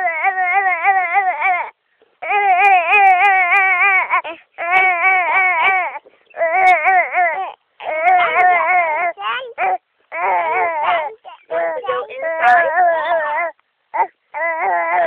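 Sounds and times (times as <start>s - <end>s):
baby crying vocal noise: 0.0s - 15.0s.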